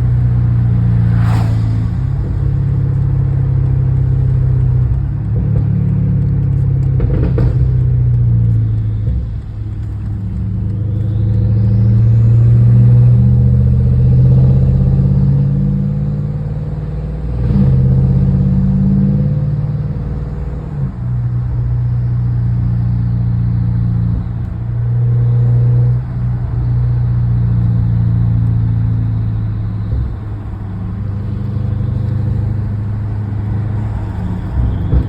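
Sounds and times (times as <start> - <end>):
car engine cruising at low revs: 0.0 - 35.0.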